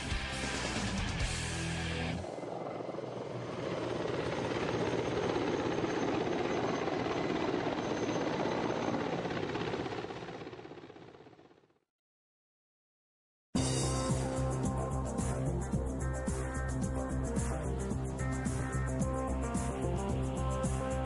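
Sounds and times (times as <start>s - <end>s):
helicopter rotor and engine rumble: 0.0s - 11.8s, 13.6s - 21.0s.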